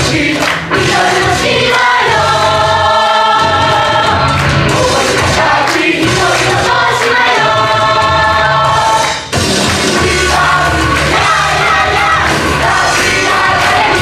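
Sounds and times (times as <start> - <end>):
ensemble singing a chorus: 0.0 - 14.0
instrumental backing: 0.0 - 14.0.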